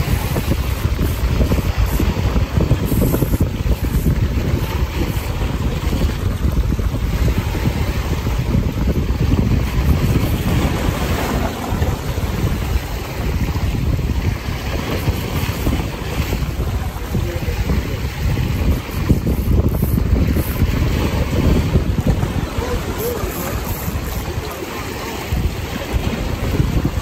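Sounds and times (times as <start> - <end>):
rushing choppy water: 0.0 - 27.0
wind buffeting microphone: 0.0 - 27.0.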